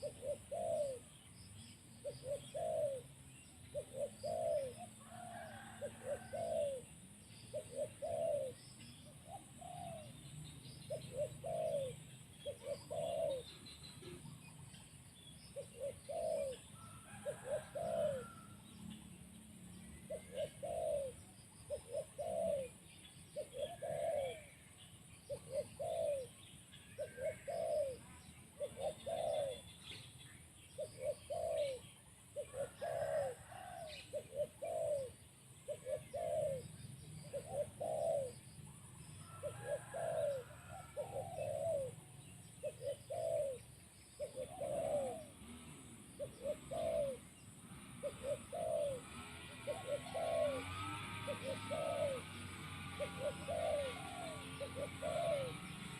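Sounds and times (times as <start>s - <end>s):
dove cooing: 0.0s - 55.9s
small birds chirping: 0.0s - 55.9s.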